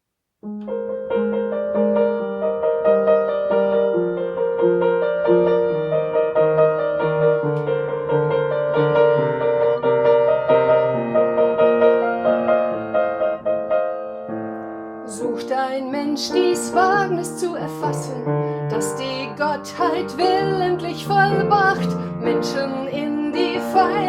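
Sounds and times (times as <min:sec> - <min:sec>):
solo piano chords: 0:00.4 - 0:24.0.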